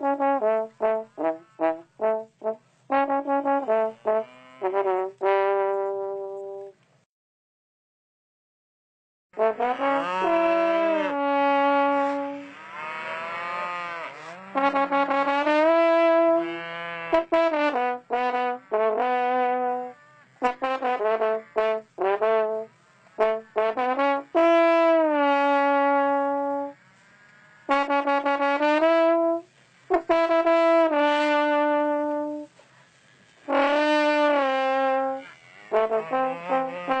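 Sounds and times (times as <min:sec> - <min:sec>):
brass instrument slow melody: 0:00.0 - 0:06.8, 0:09.4 - 0:37.0.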